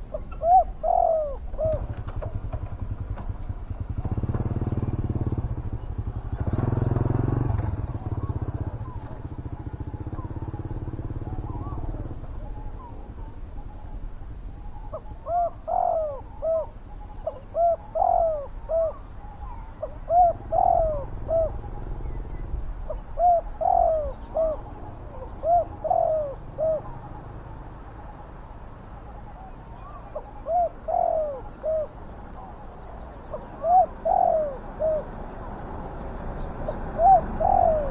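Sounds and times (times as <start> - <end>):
doves cooing: 0.0 - 37.9.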